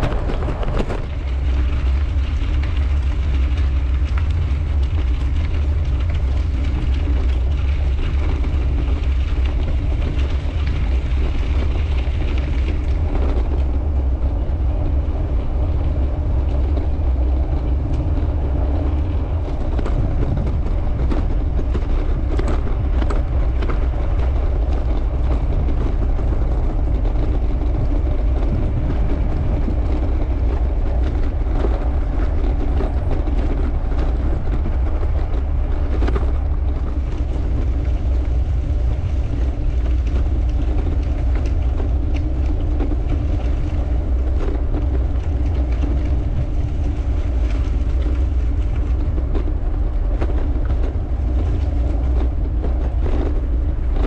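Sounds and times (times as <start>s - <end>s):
bicycle tyres rolling: 0.0s - 54.0s
wind rushing over microphone: 0.0s - 54.0s.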